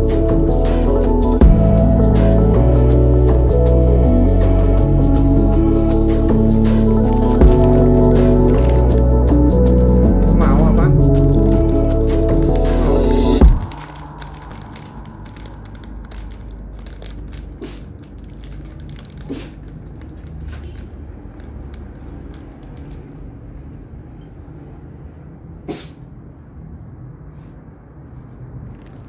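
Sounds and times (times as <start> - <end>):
low steady rumble: 0.0 - 27.3.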